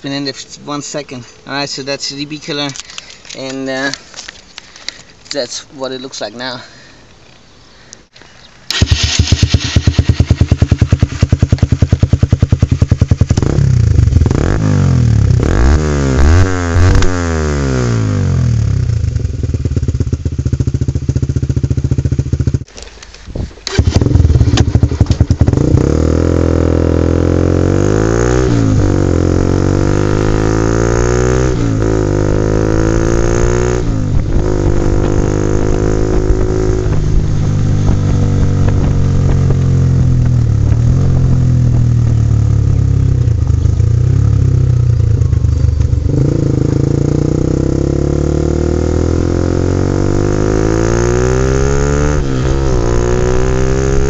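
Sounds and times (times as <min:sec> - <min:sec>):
motorcycle engine accelerating: 0:08.7 - 0:54.0.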